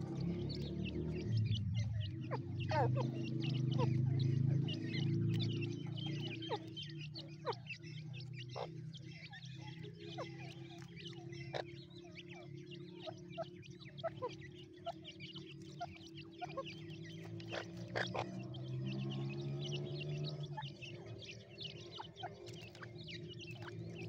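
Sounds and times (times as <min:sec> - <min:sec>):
partridge chicks peeping: 0:00.0 - 0:24.0.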